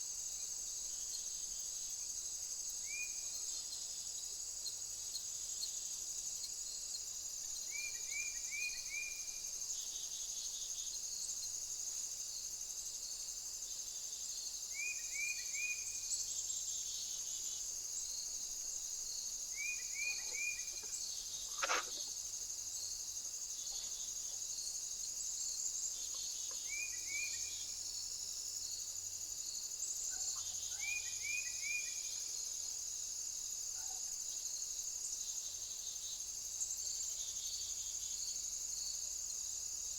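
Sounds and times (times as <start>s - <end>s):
crickets trilling: 0.1s - 39.9s.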